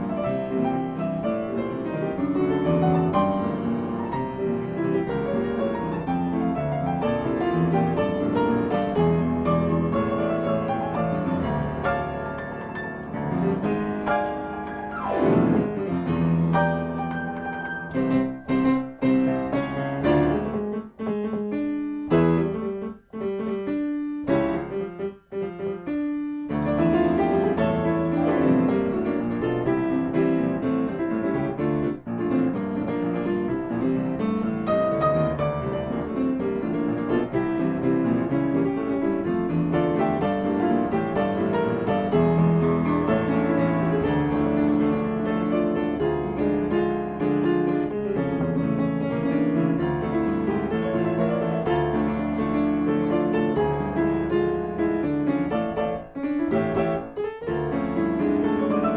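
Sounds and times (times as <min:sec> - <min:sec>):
solo piano music: 0:00.0 - 0:58.9.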